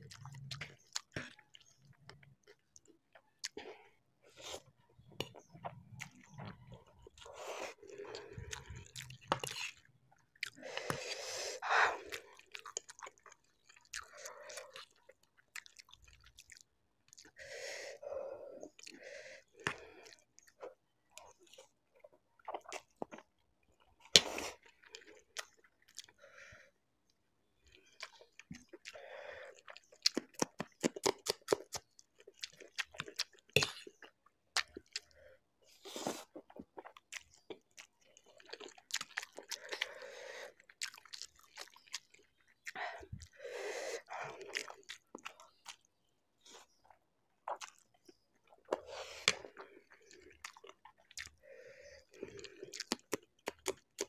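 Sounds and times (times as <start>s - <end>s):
chewing noodles with mouth smacks: 0.0s - 11.2s, 11.9s - 17.4s, 18.6s - 26.2s, 27.0s - 43.4s, 44.0s - 51.4s, 52.0s - 54.0s.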